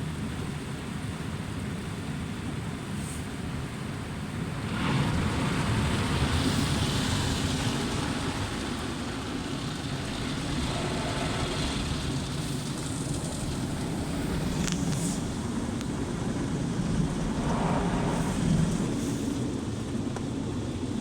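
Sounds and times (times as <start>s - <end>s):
car wash rushing heard from inside: 0.0s - 21.0s.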